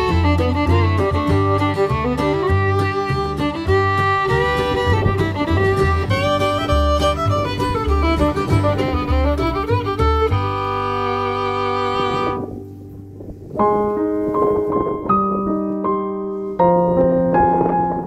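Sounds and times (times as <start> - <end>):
held music chord: 0.0 - 14.7
piano notes and chords: 0.0 - 18.0.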